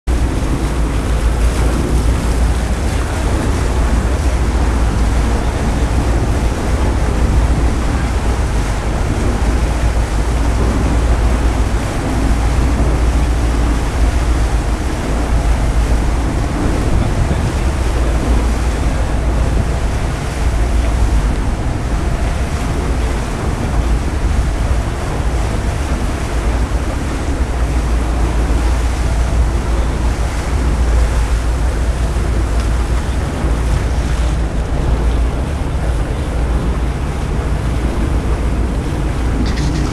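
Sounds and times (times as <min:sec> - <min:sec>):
sea water rushing along hulls: 0:00.0 - 0:39.9
wind buffeting microphone: 0:00.1 - 0:39.9.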